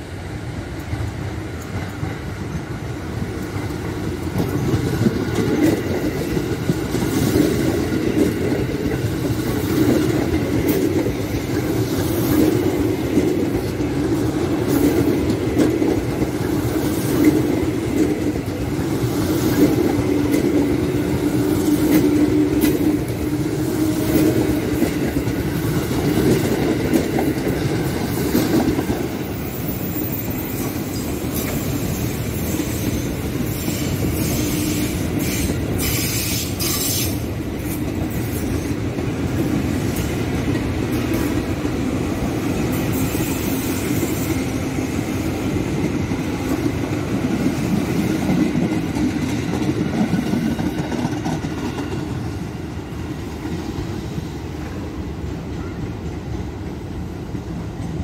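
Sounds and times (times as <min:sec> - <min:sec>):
trains rumbling past: 0:00.0 - 0:58.0.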